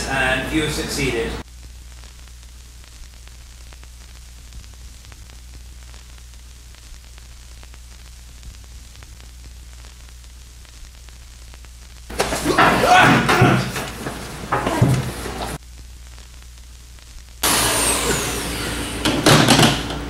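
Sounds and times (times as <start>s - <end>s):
low electrical hum: 0.0s - 20.0s
static hiss: 0.0s - 20.0s.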